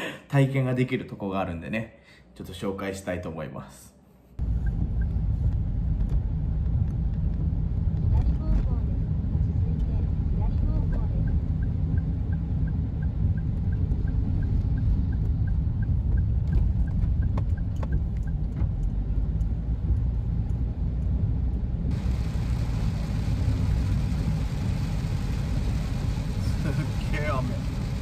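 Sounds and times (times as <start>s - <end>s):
turn signal ticking: 4.4s - 8.1s, 9.2s - 28.0s
road rumble with tyre hiss: 4.4s - 28.0s.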